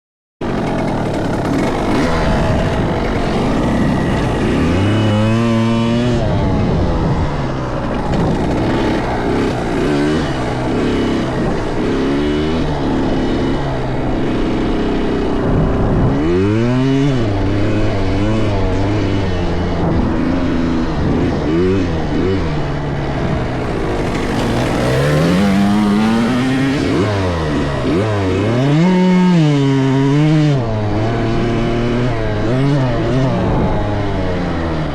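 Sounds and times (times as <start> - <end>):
dirt bike engines revving: 0.4 - 34.9.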